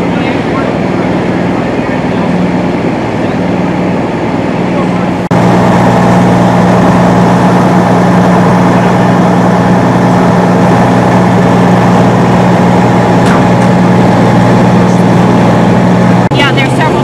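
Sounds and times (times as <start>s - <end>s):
fire engine idling: 0.0s - 17.0s.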